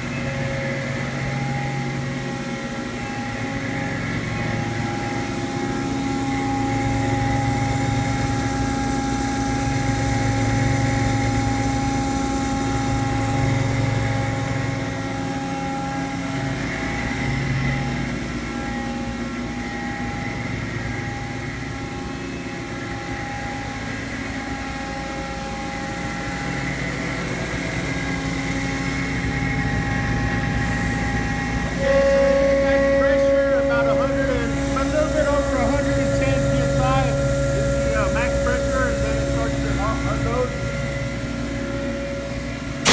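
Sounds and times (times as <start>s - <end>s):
air compressor humming and whining: 0.0s - 42.9s.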